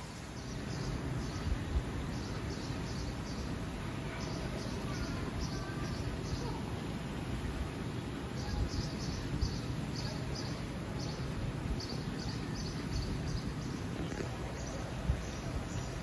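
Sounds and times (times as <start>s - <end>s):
small birds chirping: 0.0s - 6.8s, 8.2s - 16.0s.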